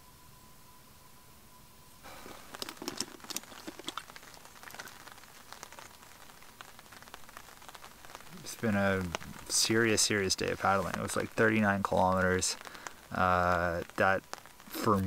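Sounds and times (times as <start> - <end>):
faint steady tone: 0.0 - 15.0
raindrops hitting a tarp: 2.0 - 15.0.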